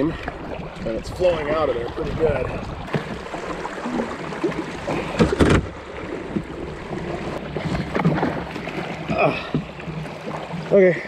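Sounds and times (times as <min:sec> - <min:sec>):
paddle strokes splashing water: 0:00.0 - 0:11.0.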